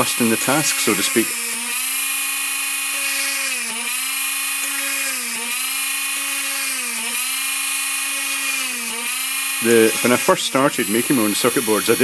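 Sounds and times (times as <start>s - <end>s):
mini drill motor whining: 0.0s - 12.0s.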